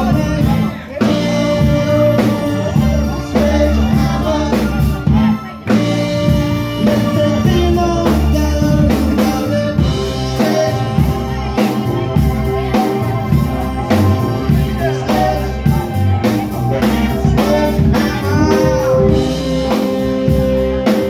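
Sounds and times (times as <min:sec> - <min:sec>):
live rock band playing: 0:00.0 - 0:21.0
person singing: 0:00.0 - 0:21.0.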